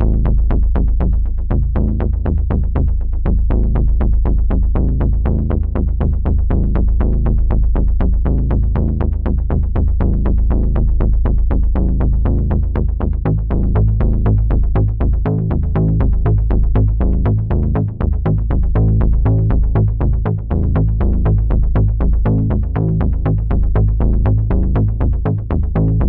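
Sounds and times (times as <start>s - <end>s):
low steady drone: 0.0s - 26.0s.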